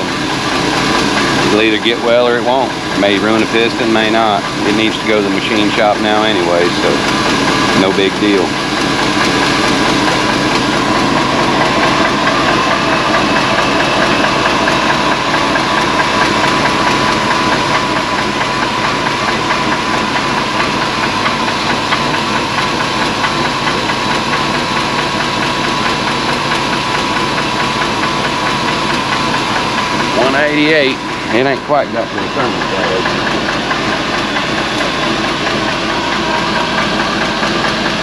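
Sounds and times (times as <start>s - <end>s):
worn engine idling with rattle: 0.0s - 38.0s.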